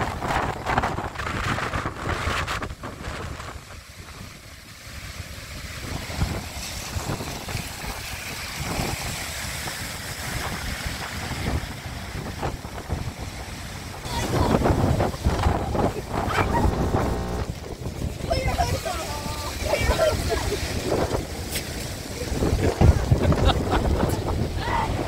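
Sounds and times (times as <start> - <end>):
wind buffeting microphone: 0.0 - 4.7, 5.5 - 25.0
storm surf breaking on sea wall: 0.0 - 25.0.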